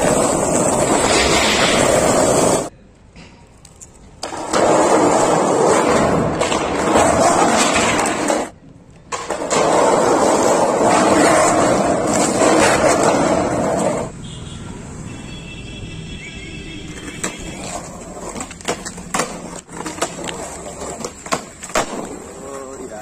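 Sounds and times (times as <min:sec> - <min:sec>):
skateboard wheels rolling on concrete: 0:00.0 - 0:23.0.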